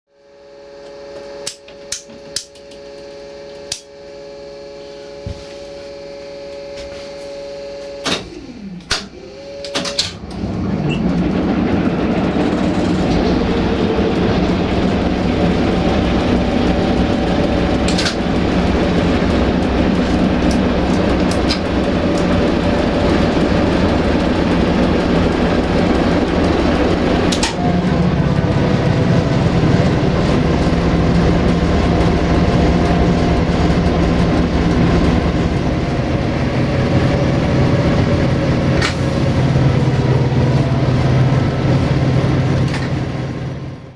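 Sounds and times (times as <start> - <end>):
steady hum: 0.1 - 43.9
falling whine: 0.2 - 43.9
diesel engine rumbling: 1.4 - 43.9.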